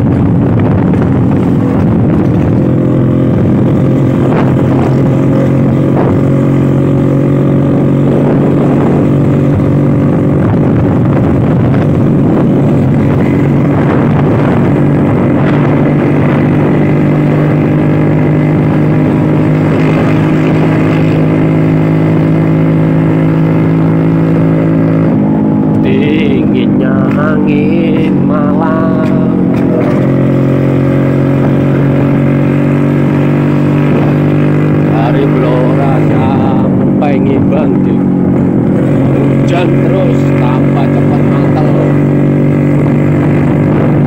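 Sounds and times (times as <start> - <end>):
scooter engine running: 0.0 - 44.0.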